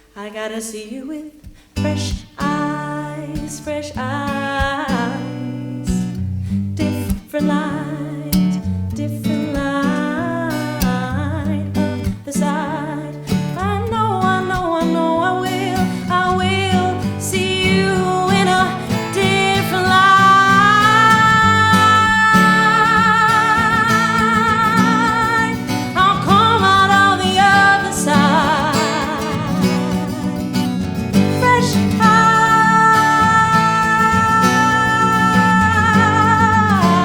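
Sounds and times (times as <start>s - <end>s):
woman singing with vibrato: 0.0s - 6.2s, 6.8s - 37.0s
fingerpicked acoustic guitar: 0.0s - 37.0s.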